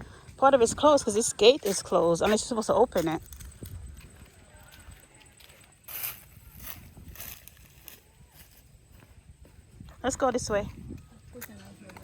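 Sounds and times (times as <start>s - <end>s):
footsteps crunching on a trail: 0.0s - 12.0s.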